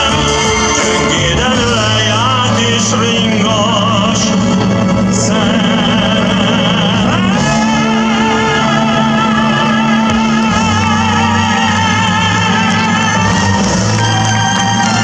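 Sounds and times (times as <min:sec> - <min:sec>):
man and woman singing duet: 0:00.0 - 0:14.0
instrumental backing with bass: 0:00.0 - 0:15.0.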